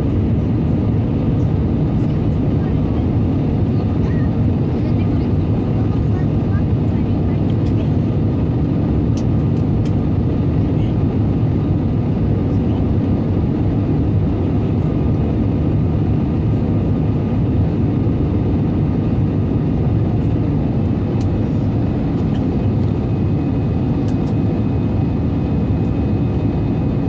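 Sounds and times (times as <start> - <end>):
faint engine whine: 0.0 - 27.0
jet engine rumble: 0.0 - 27.0.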